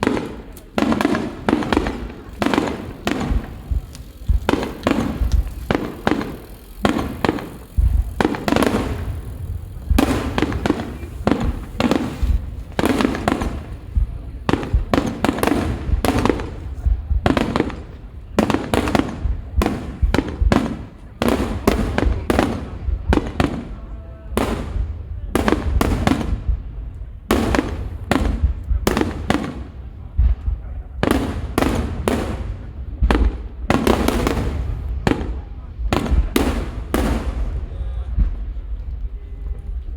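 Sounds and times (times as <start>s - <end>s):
firework shells bursting: 0.0s - 39.0s
steady deep rumble: 0.0s - 39.9s.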